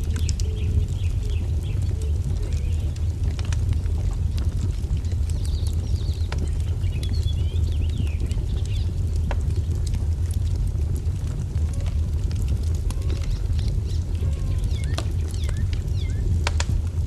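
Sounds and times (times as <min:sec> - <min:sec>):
wood fire crackling and popping: 0:00.0 - 0:17.0
small birds chirping: 0:00.1 - 0:09.8, 0:11.8 - 0:16.8.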